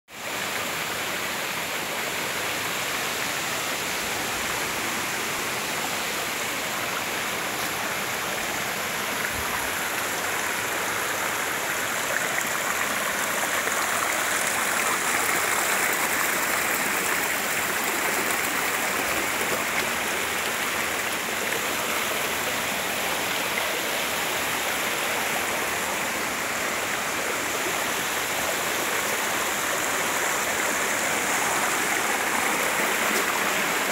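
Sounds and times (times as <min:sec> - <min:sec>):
stream rushing over stones: 0:00.1 - 0:33.9.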